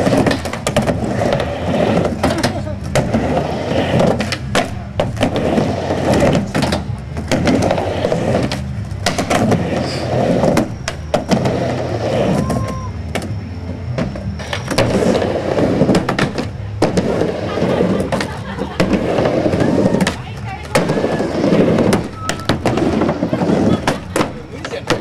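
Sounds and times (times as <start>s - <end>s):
skateboard wheels rumbling: 0.0s - 25.0s
skateboards clacking on ramp: 0.0s - 25.0s.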